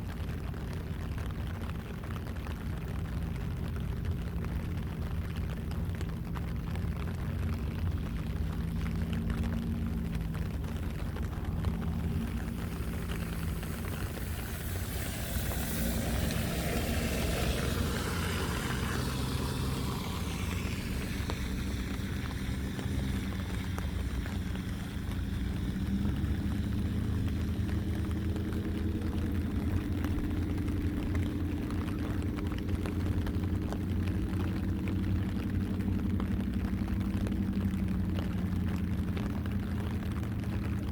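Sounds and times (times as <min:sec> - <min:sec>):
low engine drone: 0:00.0 - 0:40.9
vehicle passing by: 0:06.3 - 0:40.8.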